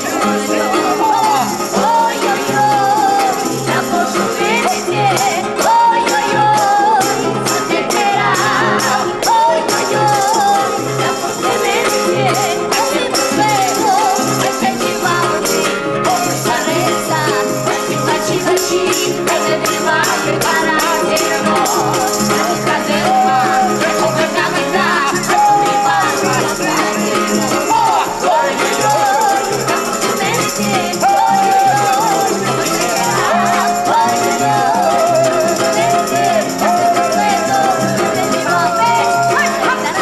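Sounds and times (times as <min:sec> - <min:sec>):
clicking percussion: 0:00.0 - 0:40.0
wavering melody: 0:00.0 - 0:40.0.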